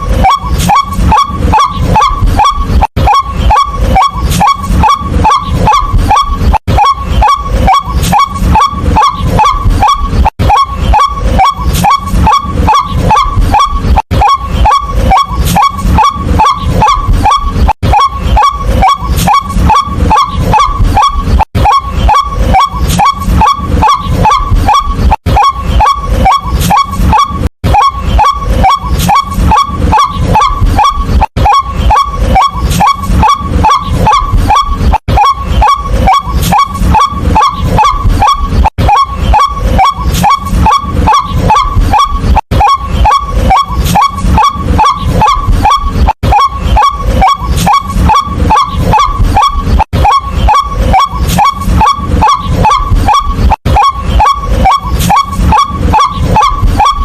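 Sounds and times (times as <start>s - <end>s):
bird honk-like calls: 0.0s - 57.0s.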